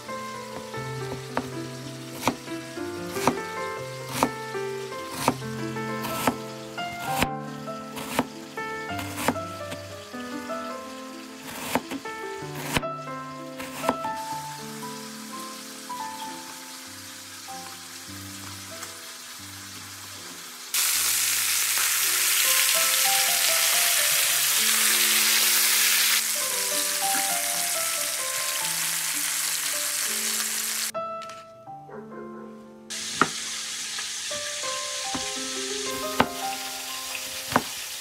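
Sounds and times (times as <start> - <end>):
chicken sizzling in frying pan: 0.0 - 12.8, 13.4 - 30.9, 32.9 - 38.0
background music: 0.0 - 38.0.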